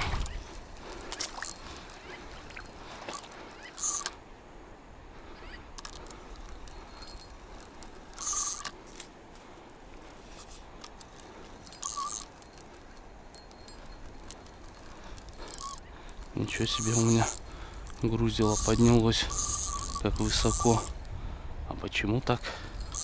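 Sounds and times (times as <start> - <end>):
fishing reel drag buzzing: 0.0 - 4.2, 5.3 - 9.0, 10.1 - 21.2, 22.4 - 23.0.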